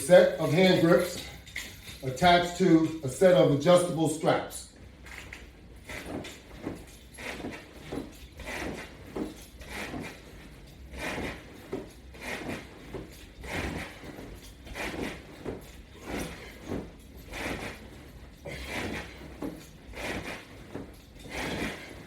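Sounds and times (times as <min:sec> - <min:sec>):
rustling and scuffing of straps: 0:00.0 - 0:22.0.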